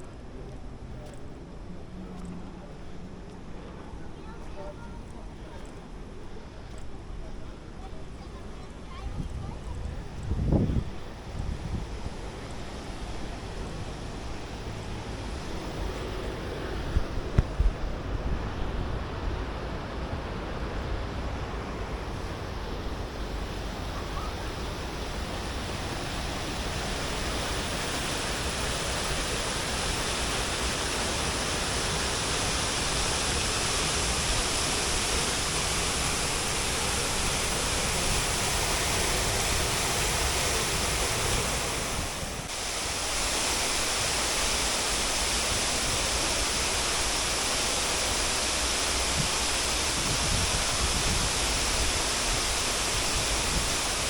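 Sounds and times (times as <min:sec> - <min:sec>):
rush of falling water from fountain: 0:07.8 - 0:54.0.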